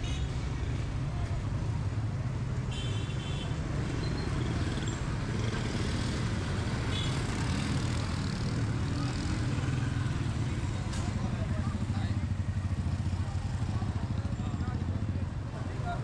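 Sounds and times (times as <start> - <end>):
traffic engine noise: 0.0 - 16.0.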